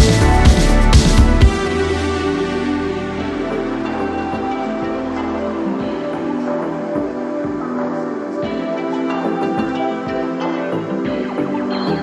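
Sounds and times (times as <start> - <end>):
ambient new-age music: 0.0 - 12.0.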